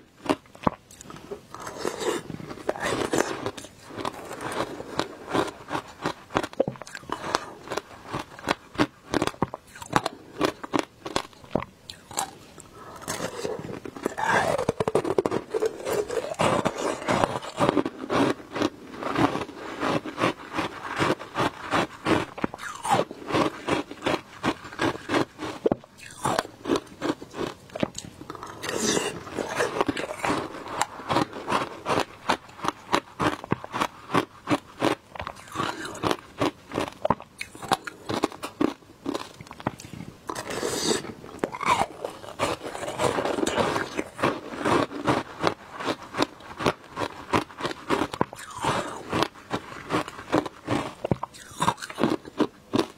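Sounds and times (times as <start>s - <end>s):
chewing ice crunches: 0.2s - 52.9s.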